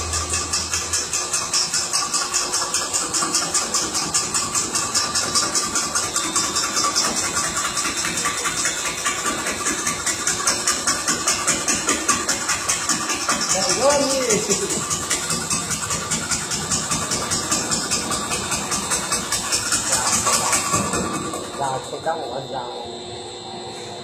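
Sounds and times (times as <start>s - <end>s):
wood carving machine whining: 0.0s - 24.0s.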